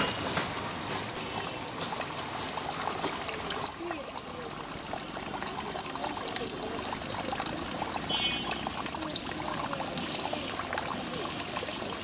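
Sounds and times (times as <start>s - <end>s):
water trickling and pouring: 0.0s - 12.0s.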